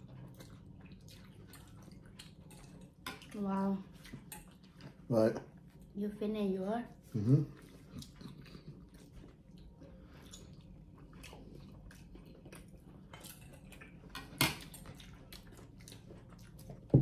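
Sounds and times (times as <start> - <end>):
soft chewing: 0.0 - 6.0, 6.9 - 17.0.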